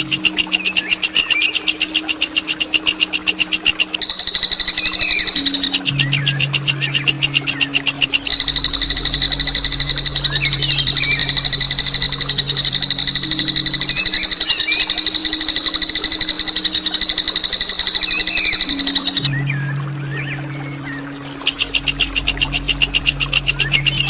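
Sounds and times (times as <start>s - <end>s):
songbird rolling trill: 0.0s - 19.3s, 21.4s - 24.0s
faint bird chirps: 0.0s - 24.0s
low steady hum: 0.0s - 24.0s.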